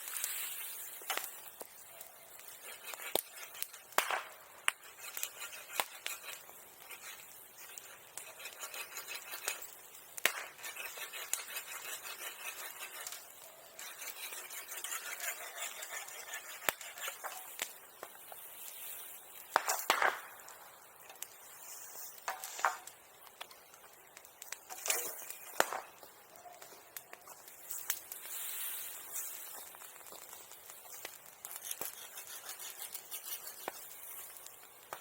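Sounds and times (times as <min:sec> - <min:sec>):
bonfire crackling: 0:00.0 - 0:35.0
fire pops and snaps: 0:00.0 - 0:35.0.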